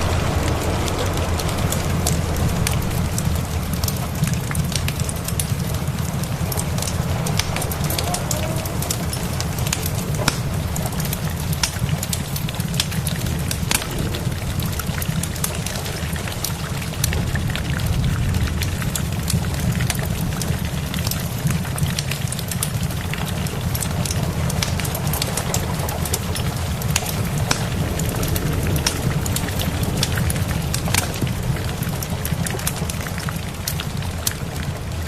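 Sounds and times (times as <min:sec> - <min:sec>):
low rumble: 0:00.0 - 0:21.8, 0:23.0 - 0:34.7
rain hissing: 0:00.0 - 0:35.0
wood fire crackling and popping: 0:00.0 - 0:35.0.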